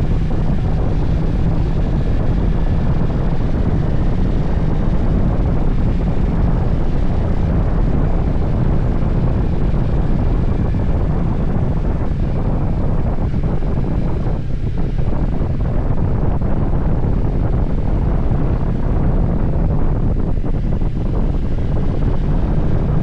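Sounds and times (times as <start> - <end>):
motorcycle engine running: 0.0 - 23.0
wind rushing on microphone: 0.0 - 23.0.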